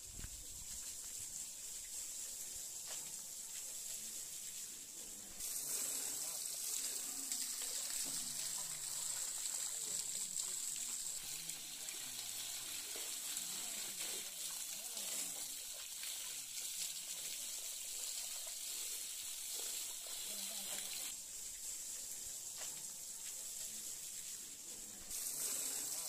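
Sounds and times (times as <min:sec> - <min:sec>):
water spraying and splashing: 0:00.0 - 0:26.0.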